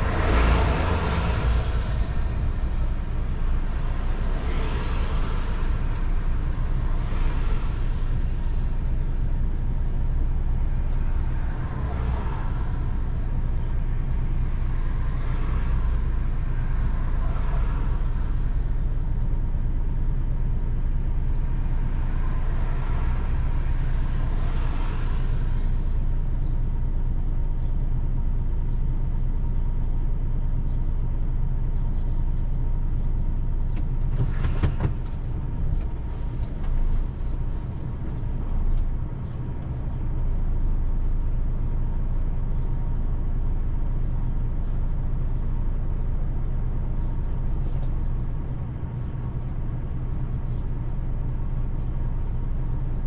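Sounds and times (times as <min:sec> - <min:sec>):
car road rumble: 0:00.0 - 0:53.0.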